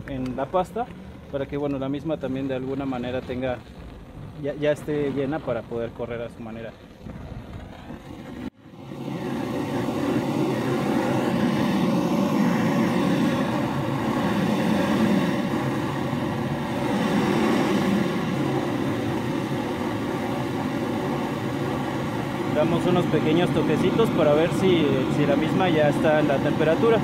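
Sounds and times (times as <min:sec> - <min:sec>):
gas torch flame rushing: 0:00.0 - 0:27.0.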